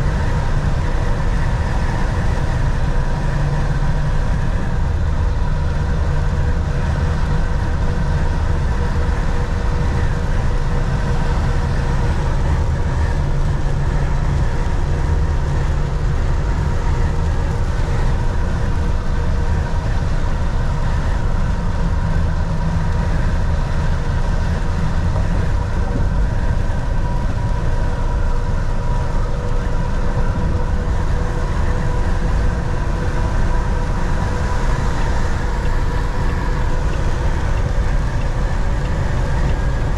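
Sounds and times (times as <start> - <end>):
faint steady whine: 0.0 - 39.9
road noise: 0.0 - 39.9
truck engine drone: 0.0 - 39.9.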